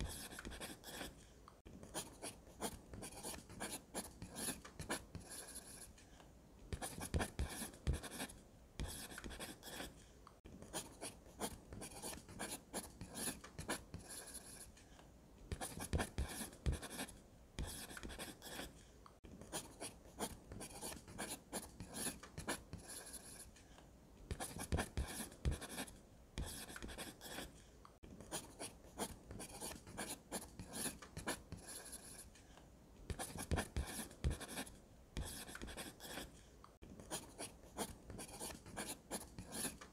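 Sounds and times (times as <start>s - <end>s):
pencil scratching on paper: 0.0s - 6.0s, 6.7s - 14.8s, 15.5s - 23.6s, 24.3s - 27.6s, 28.2s - 32.4s, 33.1s - 36.4s, 37.0s - 39.9s.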